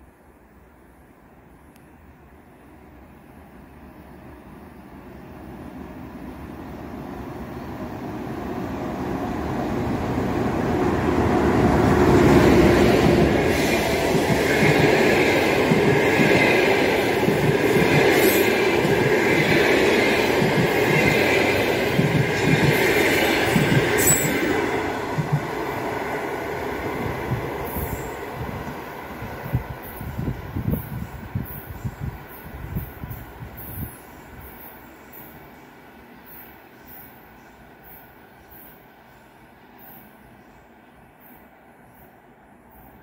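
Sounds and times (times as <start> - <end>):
train wheels rumbling on rail: 4.1 - 40.8.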